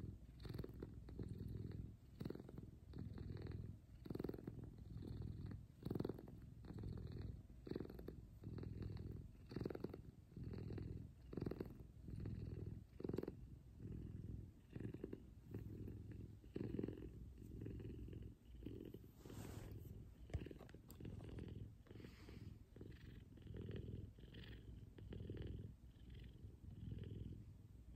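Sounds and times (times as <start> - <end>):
cat purring: 0.0 - 27.9.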